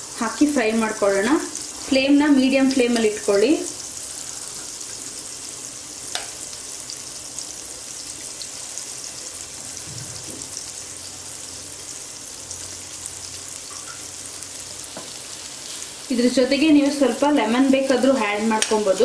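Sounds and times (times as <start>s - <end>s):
cheese sizzling in butter: 0.0s - 19.0s.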